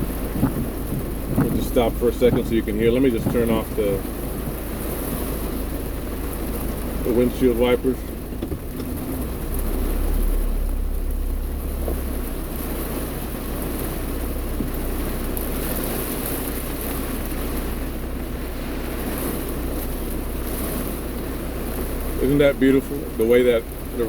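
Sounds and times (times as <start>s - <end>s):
heavy rain pouring: 0.0s - 24.0s
low steady rumble: 0.0s - 24.0s.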